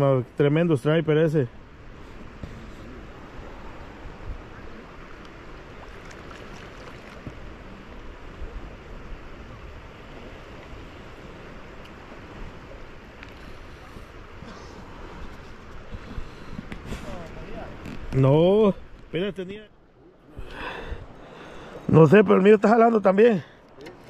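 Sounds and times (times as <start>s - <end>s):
wind blowing across microphone: 0.0s - 22.4s.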